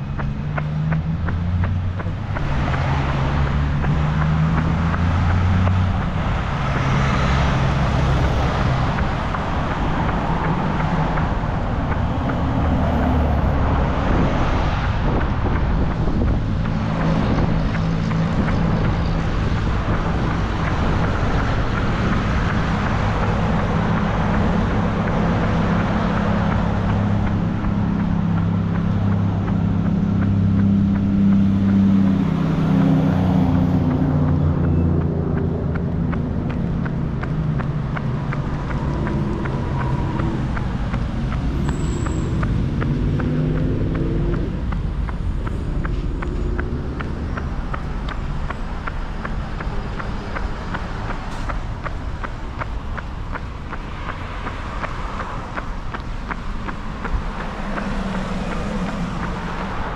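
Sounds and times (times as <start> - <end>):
engine drone: 0.0 - 59.9
road noise: 0.0 - 59.9.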